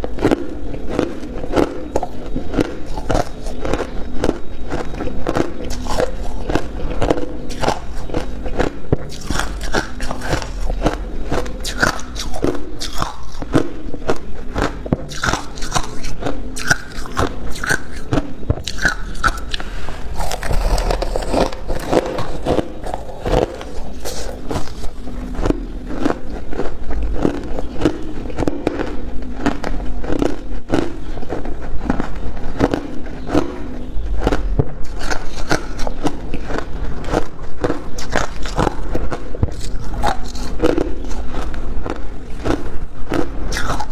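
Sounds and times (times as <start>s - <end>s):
person chewing ice: 0.0s - 43.9s.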